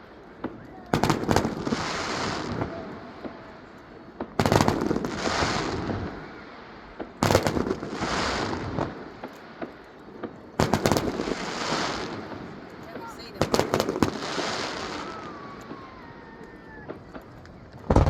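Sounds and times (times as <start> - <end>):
fireworks exploding: 0.0 - 18.0.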